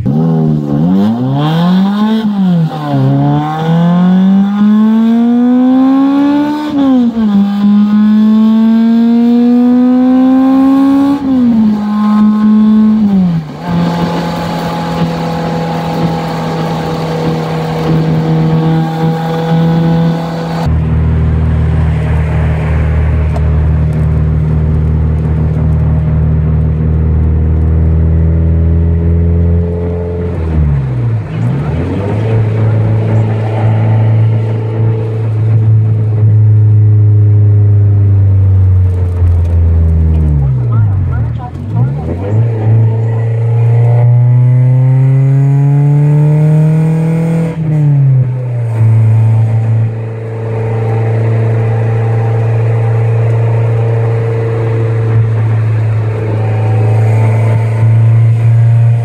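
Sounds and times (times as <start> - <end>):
car engine accelerating through gears: 0.0 - 59.0
low road rumble: 0.0 - 59.0.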